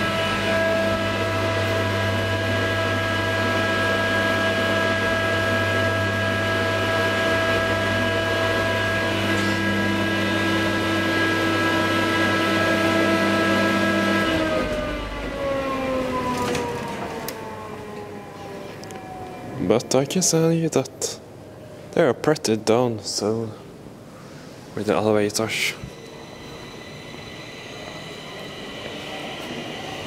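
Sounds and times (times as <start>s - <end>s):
elevator motor hum and whine: 0.0s - 21.8s, 25.0s - 30.0s.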